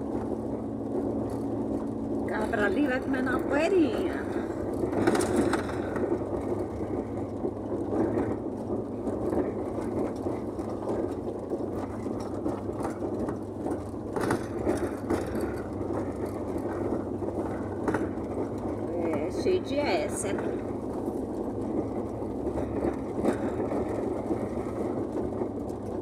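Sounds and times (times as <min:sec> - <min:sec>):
engine and tyres on gravel: 0:00.0 - 0:26.0
small knocks and rattles: 0:03.2 - 0:26.0.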